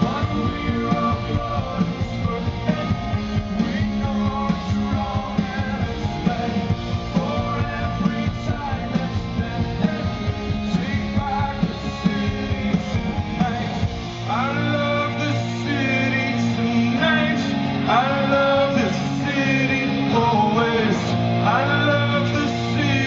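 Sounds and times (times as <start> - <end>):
rock band playing: 0.0 - 23.0.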